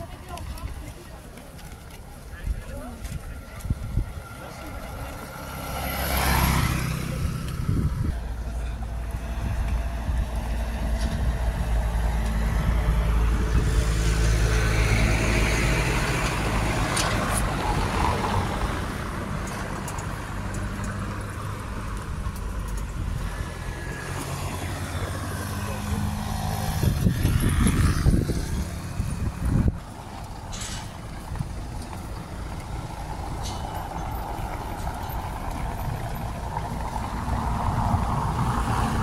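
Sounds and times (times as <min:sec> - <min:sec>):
road vehicle engines droning: 0:00.0 - 0:39.0.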